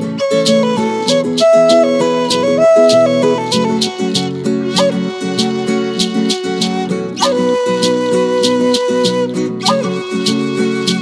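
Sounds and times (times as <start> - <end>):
acoustic guitar strumming: 0.0 - 11.0
wooden flute melody: 0.0 - 11.0.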